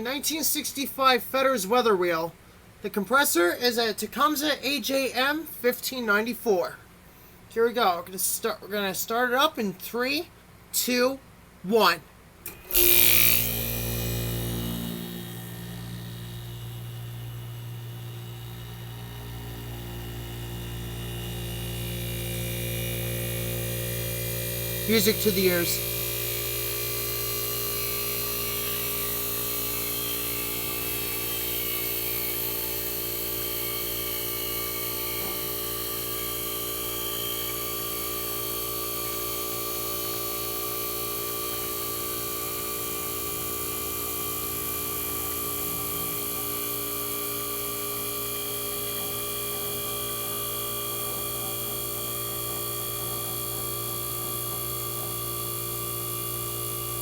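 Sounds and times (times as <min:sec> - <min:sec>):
air conditioner compressor humming: 0:00.0 - 0:57.0.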